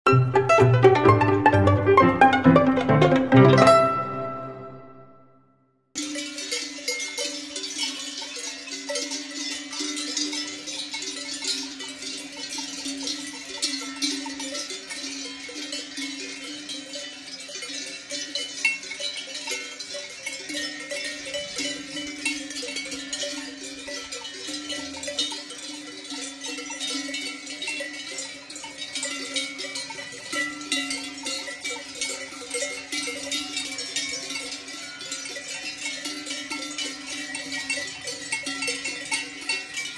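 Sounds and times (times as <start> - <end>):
cowbells clanking: 6.0 - 39.9.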